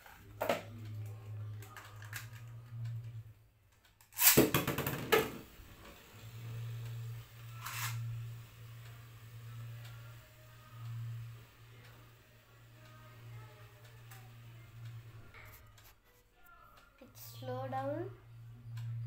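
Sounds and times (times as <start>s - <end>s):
steady low hum: 0.0s - 3.7s, 5.1s - 19.0s.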